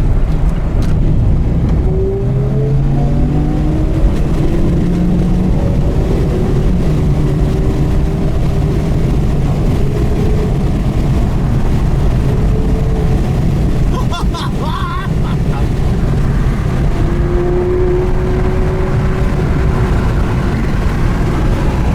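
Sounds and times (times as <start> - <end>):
car engine low rumble: 0.0 - 21.9.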